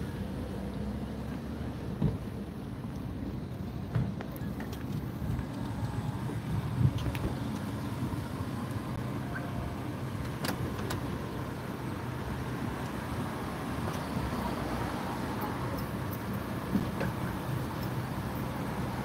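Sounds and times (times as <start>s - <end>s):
motor vehicle engine rumbling: 0.0s - 19.0s.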